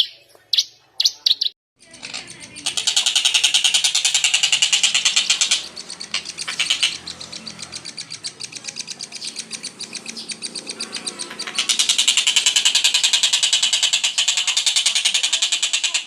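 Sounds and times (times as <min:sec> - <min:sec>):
songbird chirping rapidly: 0:00.0 - 0:16.0.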